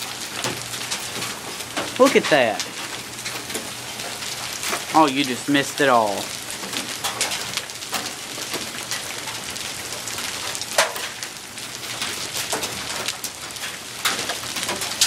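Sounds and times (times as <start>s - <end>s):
hail pelting down: 0.0s - 15.0s.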